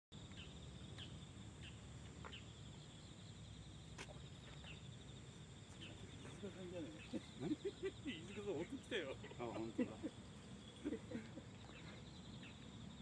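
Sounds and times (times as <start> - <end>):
insects trilling: 0.2 - 13.0.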